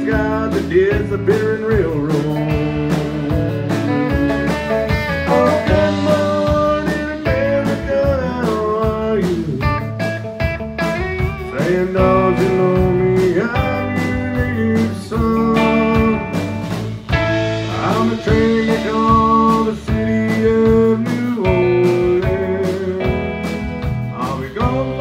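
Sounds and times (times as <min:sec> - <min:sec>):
electric bass: 0:00.0 - 0:25.0
strummed acoustic guitar: 0:00.0 - 0:25.0.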